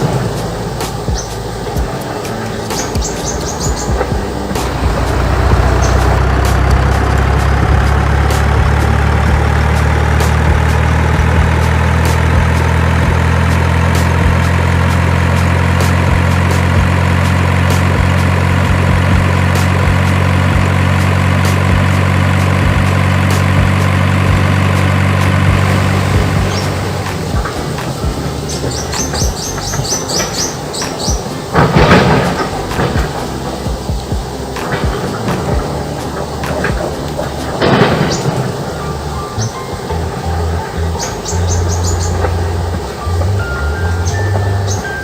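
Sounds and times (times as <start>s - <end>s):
faint rising whine: 0.0s - 45.0s
heavy vehicle engine humming: 0.0s - 45.0s.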